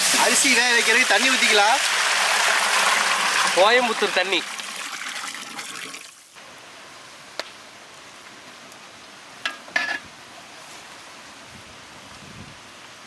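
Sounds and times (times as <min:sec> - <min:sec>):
faint steady hiss: 0:00.0 - 0:02.7, 0:03.4 - 0:13.0.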